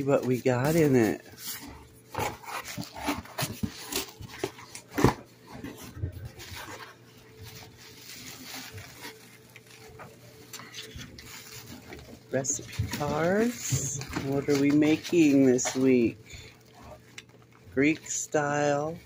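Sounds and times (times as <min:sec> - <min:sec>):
cardboard packaging rustling: 0:00.0 - 0:19.0.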